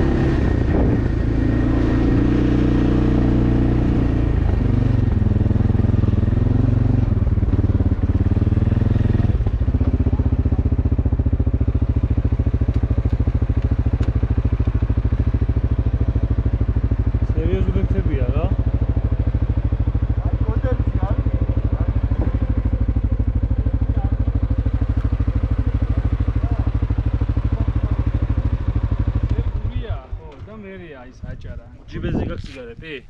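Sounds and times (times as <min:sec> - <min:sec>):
vehicle engine running: 0:00.0 - 0:31.4.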